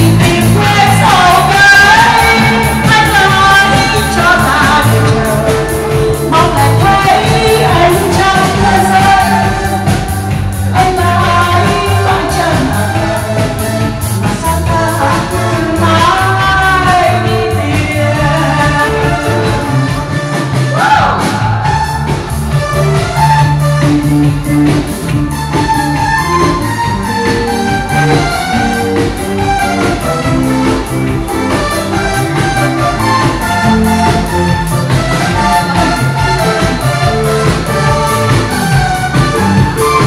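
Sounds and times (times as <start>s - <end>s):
loud dance music with singer: 0.0s - 27.1s, 27.7s - 40.0s.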